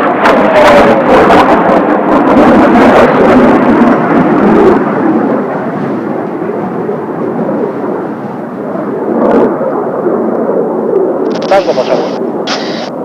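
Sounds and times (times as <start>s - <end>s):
jet aircraft flying over: 0.0s - 13.0s.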